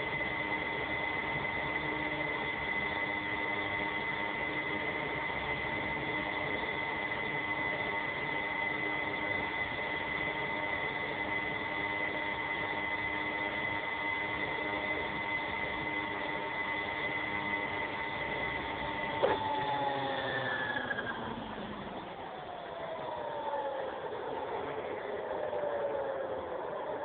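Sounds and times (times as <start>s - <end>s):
model aircraft motor whine: 0.0s - 27.0s.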